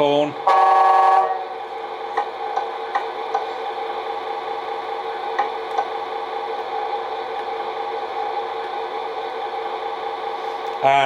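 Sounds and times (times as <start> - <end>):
simulated diesel engine idling: 0.0 - 11.0.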